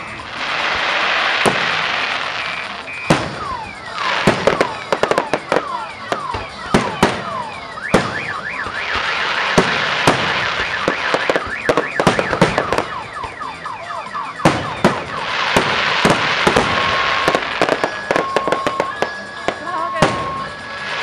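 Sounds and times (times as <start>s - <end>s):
fireworks shells bursting: 0.0s - 13.6s, 14.2s - 21.0s
whistling fireworks: 0.0s - 21.0s.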